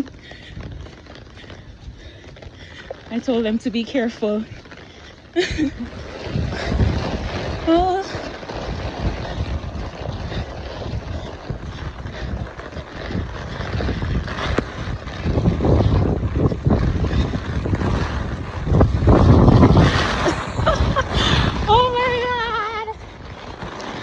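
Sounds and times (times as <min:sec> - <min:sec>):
driving rain: 0:00.0 - 0:24.0
wind gusting against microphone: 0:00.0 - 0:24.0.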